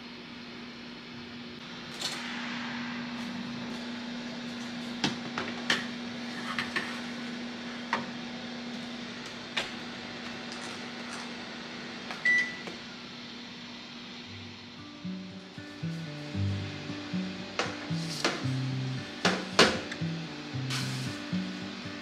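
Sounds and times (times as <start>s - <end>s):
countertop oven humming: 0.0s - 22.0s.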